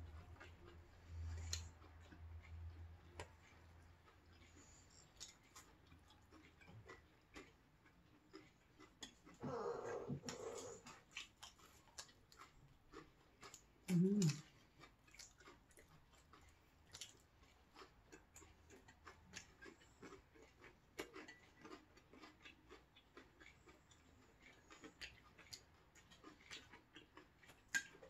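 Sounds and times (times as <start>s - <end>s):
faint close chewing: 0.0s - 28.0s.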